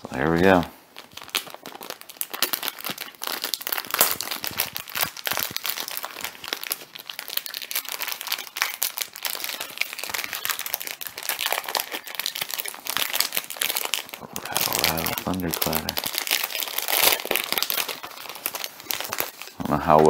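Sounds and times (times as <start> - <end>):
plastic wrapper crinkling: 0.1 - 20.0.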